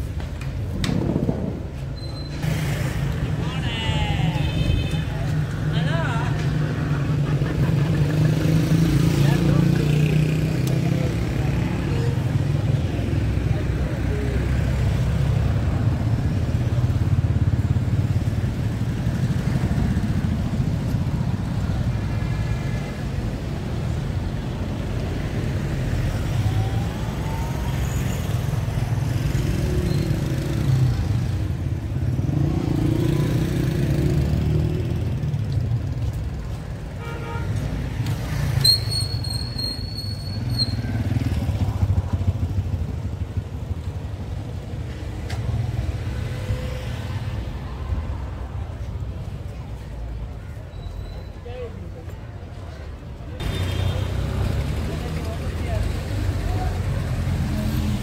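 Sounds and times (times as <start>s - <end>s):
motorcycles and cars passing: 0.0s - 50.7s, 51.8s - 58.0s.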